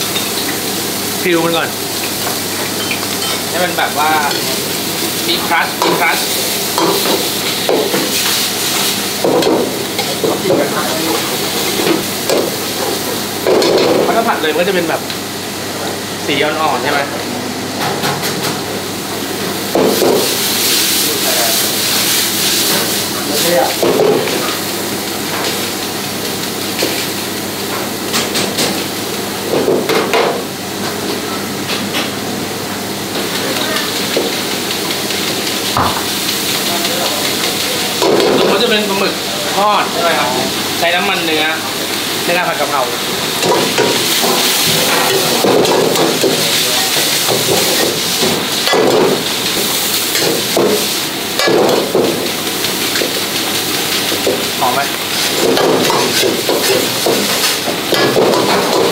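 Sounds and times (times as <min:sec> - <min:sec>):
meat sizzling in a wok: 0:00.0 - 0:16.9, 0:18.2 - 0:58.9.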